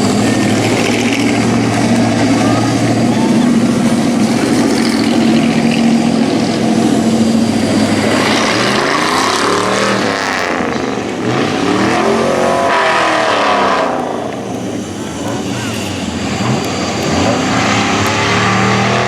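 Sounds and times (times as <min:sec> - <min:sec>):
race truck engines passing: 0:00.0 - 0:19.0.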